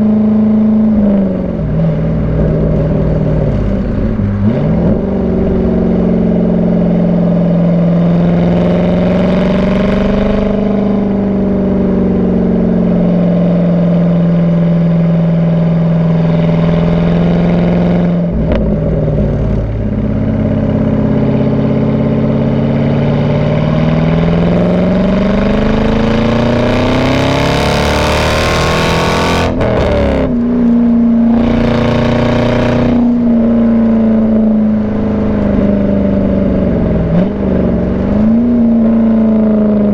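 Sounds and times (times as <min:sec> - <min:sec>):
car engine and exhaust while driving: 0:00.0 - 0:39.9.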